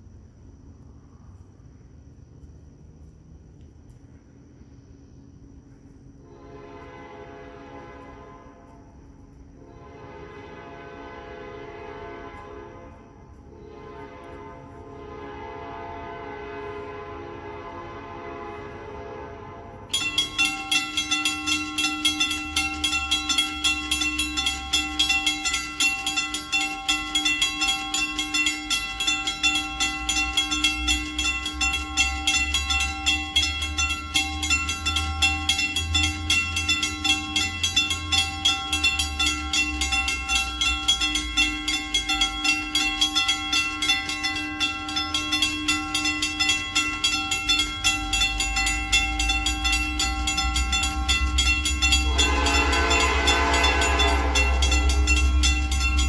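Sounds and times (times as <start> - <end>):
diesel train rumble: 0.0 - 56.0
railroad crossing bells ringing: 6.2 - 56.0.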